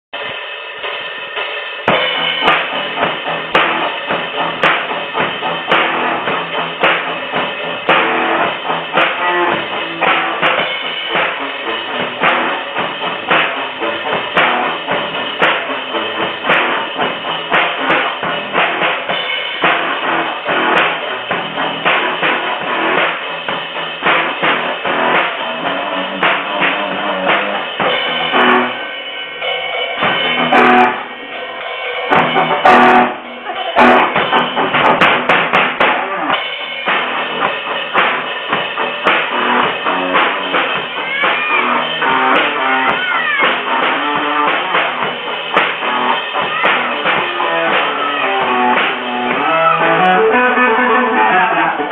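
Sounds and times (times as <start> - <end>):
band music: 0.2 - 51.9
drum kit beat: 0.2 - 51.9.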